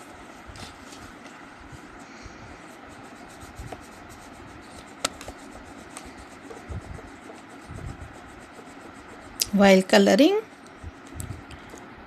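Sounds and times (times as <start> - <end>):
colouring strokes rubbing on paper: 0.0 - 11.5.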